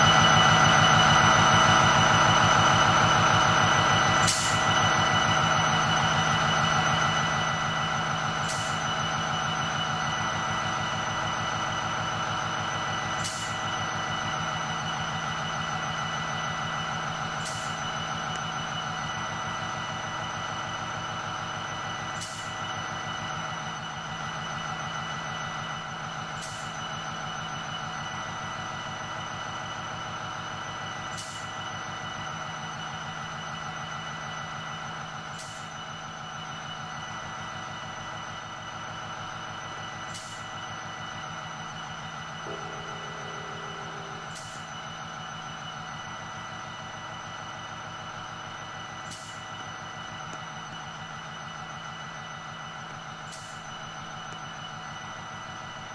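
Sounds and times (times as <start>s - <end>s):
train engine throbbing: 0.0s - 55.9s.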